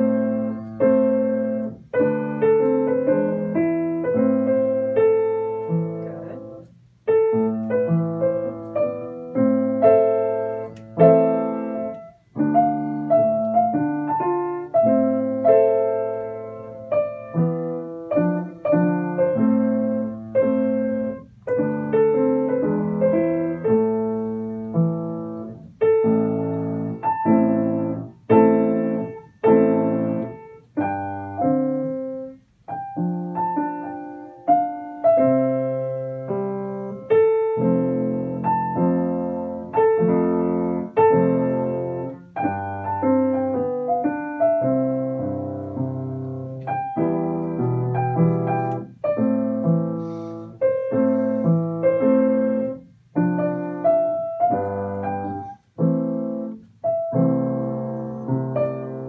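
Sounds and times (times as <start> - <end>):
piano duet chords: 0.0 - 59.0.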